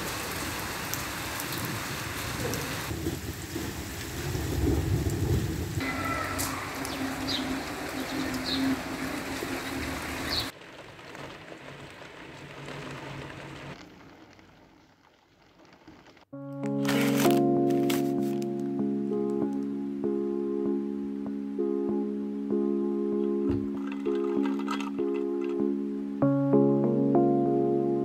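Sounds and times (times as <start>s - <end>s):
steady rain falling: 0.0s - 27.1s.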